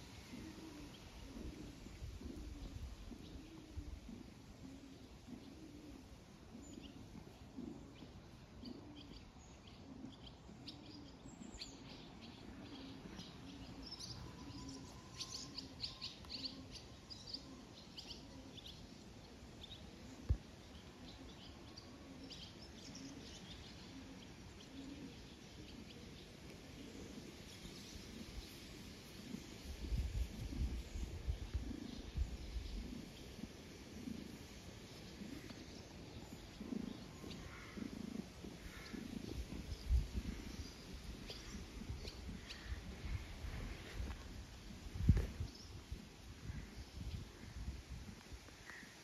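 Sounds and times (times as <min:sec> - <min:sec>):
small birds chirping: 0:00.1 - 0:49.0.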